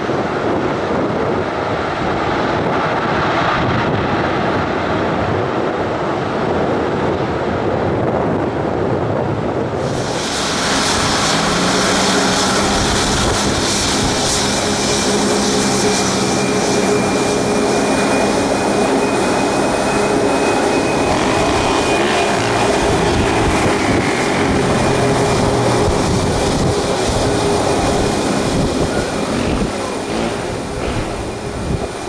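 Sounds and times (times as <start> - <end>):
jet engines running loud: 0.0 - 32.0.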